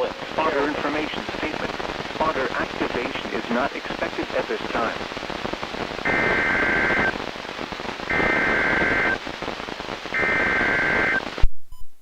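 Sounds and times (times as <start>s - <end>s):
radio hiss: 0.0s - 11.5s.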